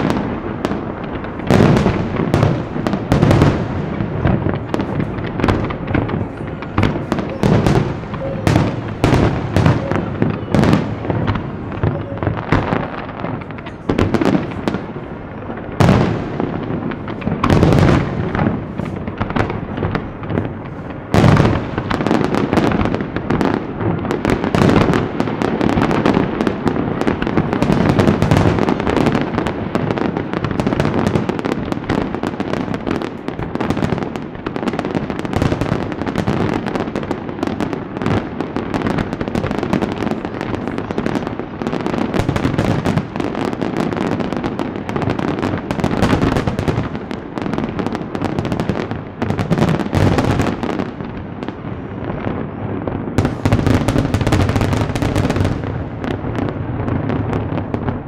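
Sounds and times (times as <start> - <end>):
fireworks bursts and bangs: 0.0 - 58.0.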